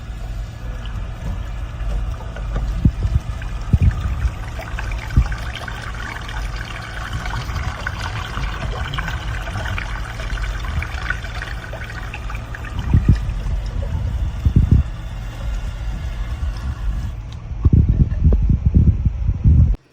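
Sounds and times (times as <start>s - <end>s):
water pouring into sink: 0.0s - 18.4s
low thumps: 0.0s - 19.8s.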